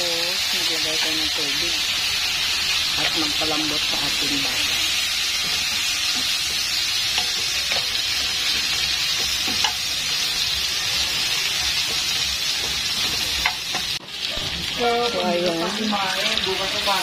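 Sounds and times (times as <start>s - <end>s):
frying pan sizzling: 0.0s - 17.0s.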